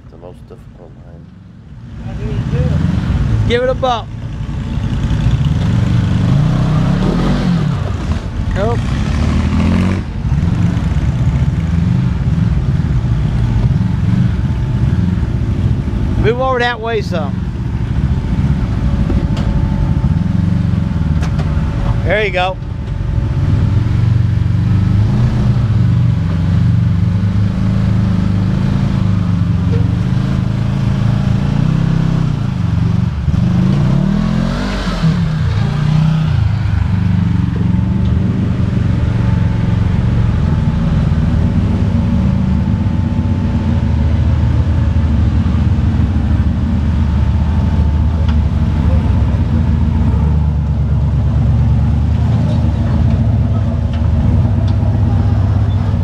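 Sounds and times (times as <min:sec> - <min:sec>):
off-road vehicle engine at low revs: 0:00.0 - 0:56.0.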